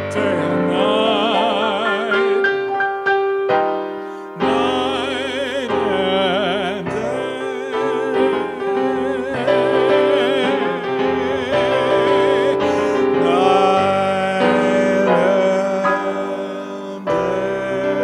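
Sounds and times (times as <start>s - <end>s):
keyboard chords: 0.0s - 18.0s.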